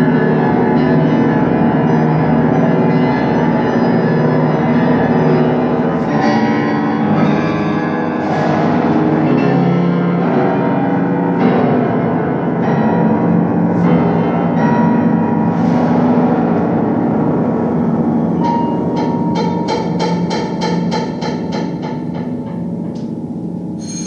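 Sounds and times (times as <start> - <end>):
grand piano chords: 0.0 - 24.0.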